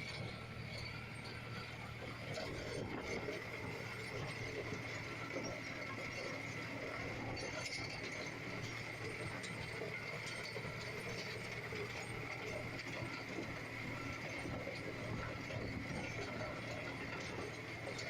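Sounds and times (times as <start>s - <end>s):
diesel tractor engine drone: 0.0s - 18.0s.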